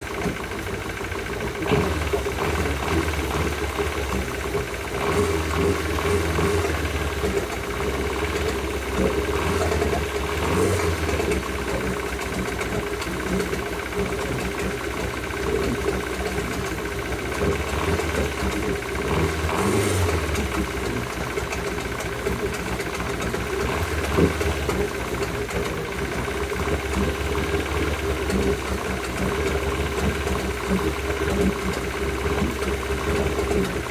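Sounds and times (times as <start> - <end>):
outboard motor running with knock: 0.0 - 33.9.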